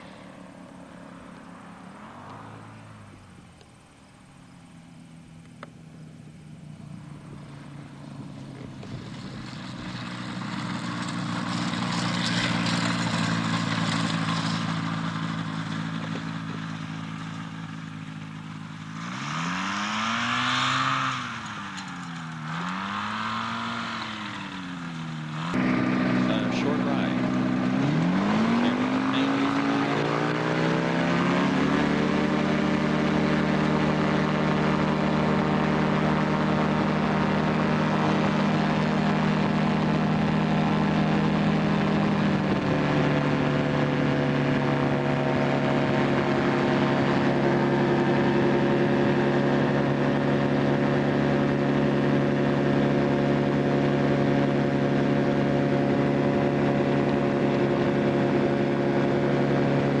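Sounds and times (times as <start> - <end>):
aircraft engine and propeller: 0.0 - 60.0.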